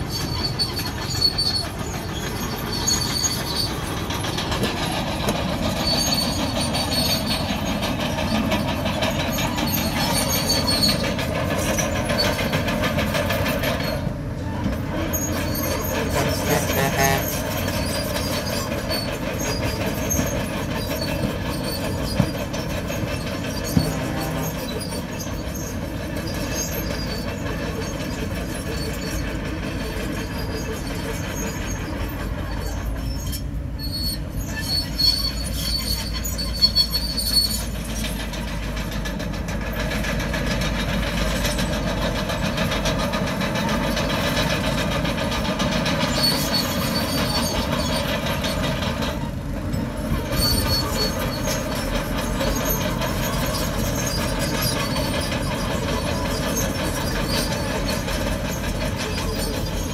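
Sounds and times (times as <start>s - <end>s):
bulldozer diesel engine running: 0.0s - 59.9s
steel tracks clanking and squealing: 0.0s - 59.9s.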